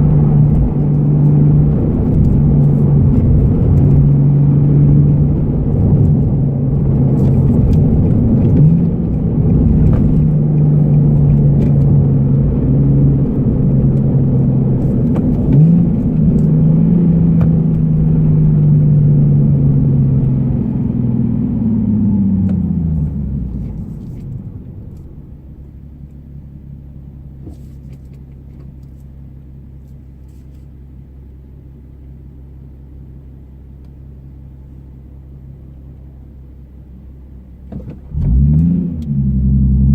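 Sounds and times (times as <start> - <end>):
car engine cruising: 0.0 - 39.9
engine idling low hum: 0.0 - 39.9.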